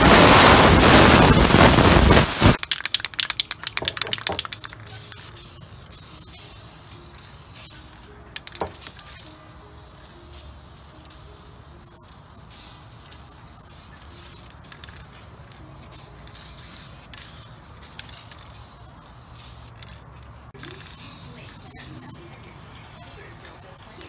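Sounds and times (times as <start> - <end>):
aerosol can spraying: 0.0 - 24.0.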